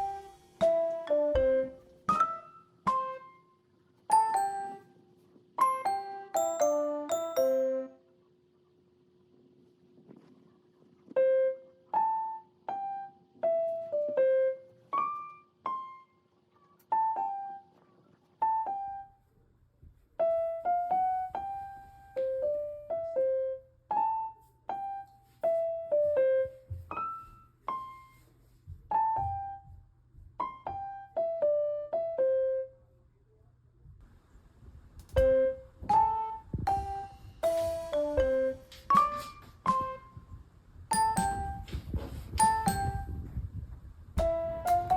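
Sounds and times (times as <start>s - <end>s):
slow piano melody: 0.0s - 8.1s, 11.2s - 17.8s, 18.4s - 19.3s, 20.2s - 32.8s, 35.2s - 43.4s, 44.2s - 44.9s.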